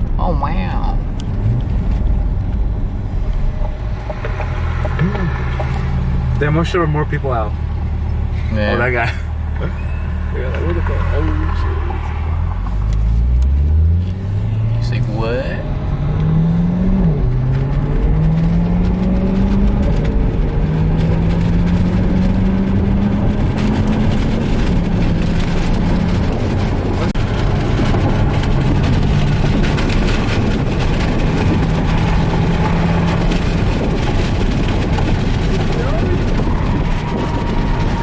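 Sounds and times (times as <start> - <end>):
car engine accelerating: 0.0 - 38.0
road and tyre noise: 0.0 - 38.0.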